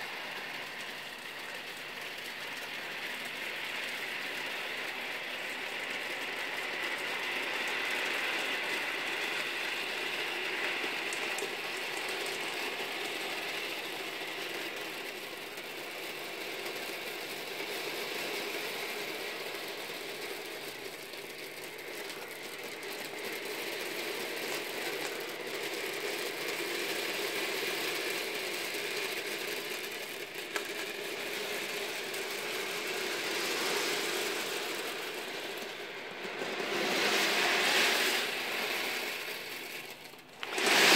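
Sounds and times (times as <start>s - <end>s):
steel ball bearings clattering: 0.0s - 40.9s.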